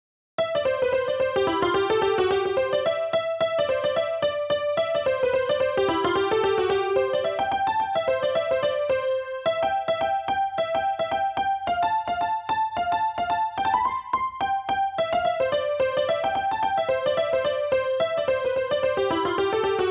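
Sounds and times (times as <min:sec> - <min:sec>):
bouncy piano music: 0:00.4 - 0:19.9.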